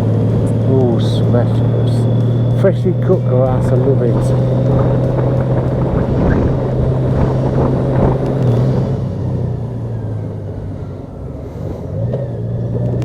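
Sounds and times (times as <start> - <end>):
motorcycle engine humming: 0.0 - 13.0
wind and road noise: 0.0 - 13.0.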